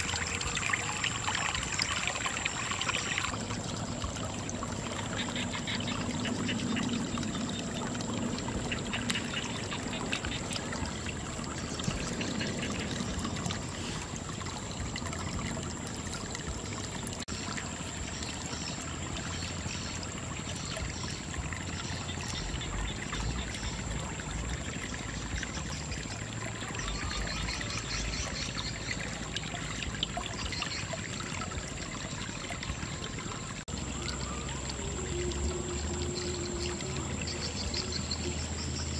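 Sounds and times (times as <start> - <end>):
water trickling into a pool: 0.0 - 38.9.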